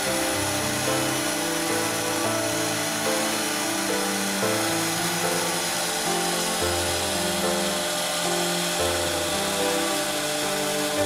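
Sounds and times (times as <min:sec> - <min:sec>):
background music: 0:00.0 - 0:11.0
router spindles hissing: 0:00.0 - 0:11.0.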